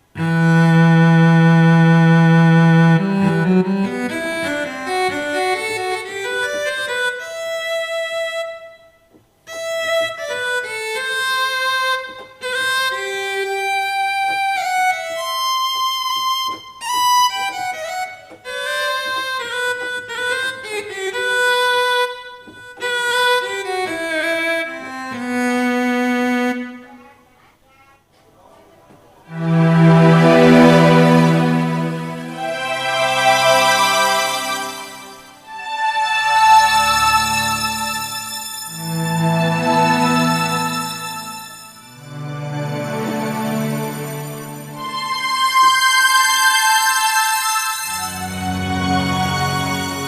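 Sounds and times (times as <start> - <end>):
keyboard melody on lead tone: 0.0 - 9.0, 9.6 - 26.9, 29.3 - 50.0.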